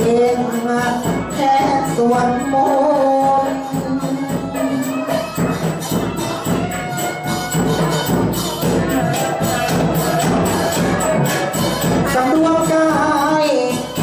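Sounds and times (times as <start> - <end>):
chant: 0.0 - 14.0
folk music: 0.0 - 14.0
percussion strokes: 0.0 - 14.0.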